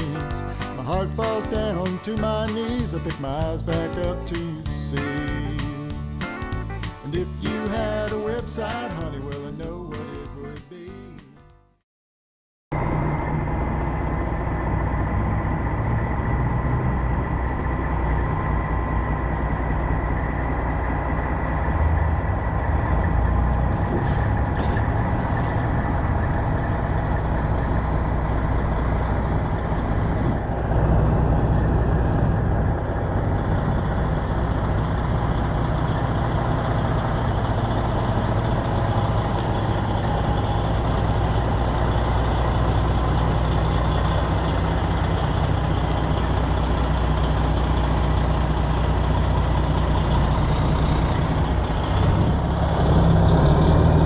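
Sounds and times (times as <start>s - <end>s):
diesel truck engine droning: 0.0s - 10.4s, 12.7s - 54.0s.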